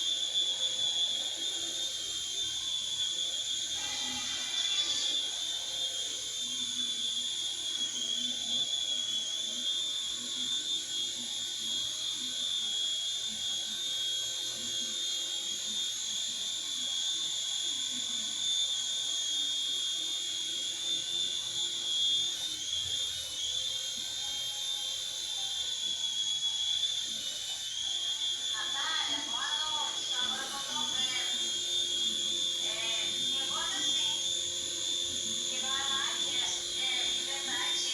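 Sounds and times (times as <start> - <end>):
small rotor motor whining: 0.0 - 37.9.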